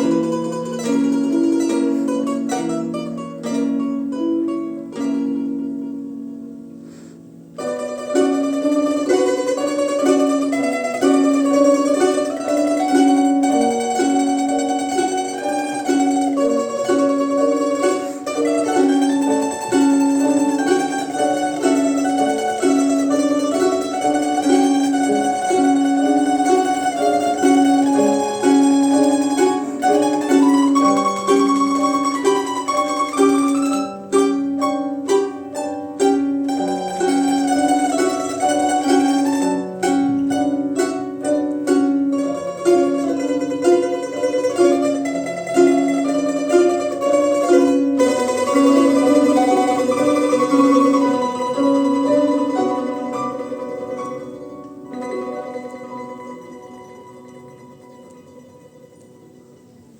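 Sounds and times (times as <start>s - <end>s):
domra ensemble playing: 0.0s - 59.9s.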